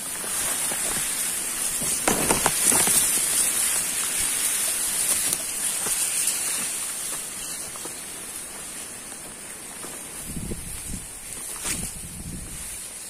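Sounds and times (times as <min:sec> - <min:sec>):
footsteps in tall grass: 0:00.0 - 0:13.0
grass rustling: 0:00.0 - 0:13.0
high-pitched hiss: 0:00.0 - 0:13.0.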